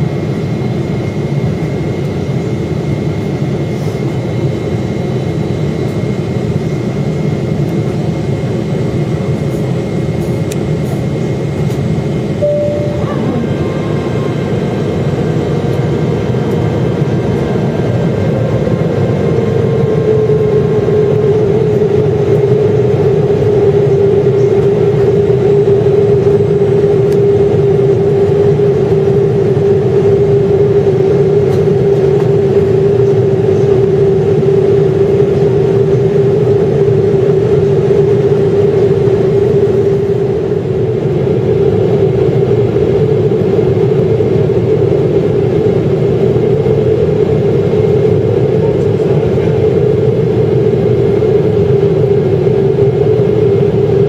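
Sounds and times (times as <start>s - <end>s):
jet engine and airflow rush: 0.0s - 54.0s.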